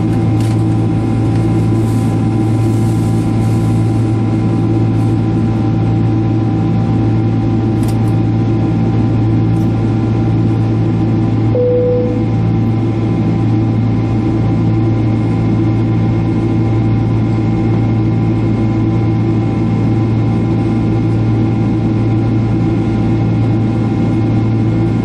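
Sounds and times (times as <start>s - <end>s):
jet engine drone in cabin: 0.0s - 25.0s.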